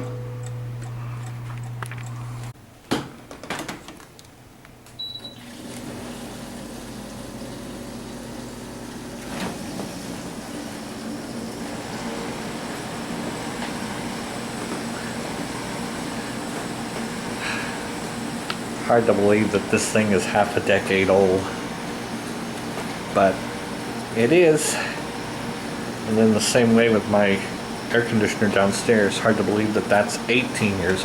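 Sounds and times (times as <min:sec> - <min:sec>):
hvac system humming: 0:00.0 - 0:31.0.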